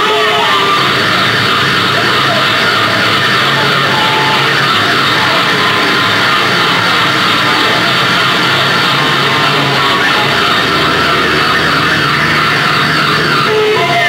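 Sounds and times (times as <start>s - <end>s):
heavy metal rock music: 0.0s - 14.0s.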